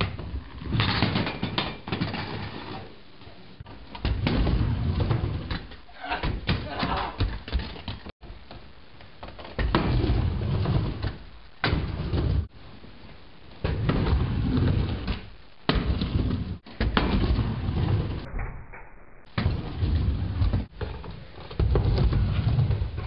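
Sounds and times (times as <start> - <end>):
scooter wheels rolling on wood: 0.0 - 18.3, 19.3 - 23.0.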